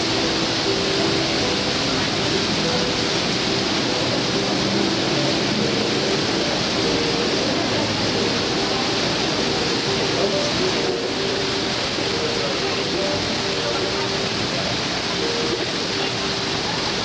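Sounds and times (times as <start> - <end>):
faint background music: 0.0 - 17.0
fountain jets splashing: 0.0 - 17.0
heavy rain on paving: 0.0 - 17.0.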